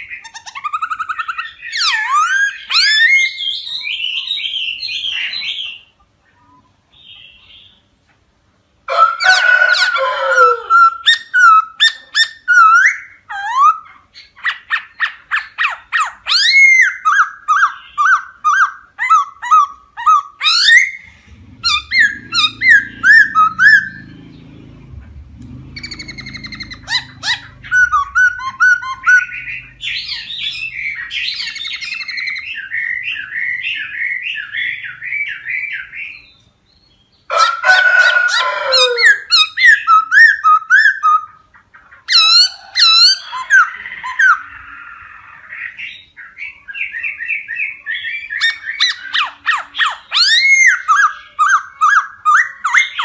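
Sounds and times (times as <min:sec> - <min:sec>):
bird singing whistles and trills: 0:00.0 - 0:05.9, 0:10.7 - 0:24.1, 0:25.8 - 0:37.2, 0:39.1 - 0:41.4, 0:42.1 - 0:53.0.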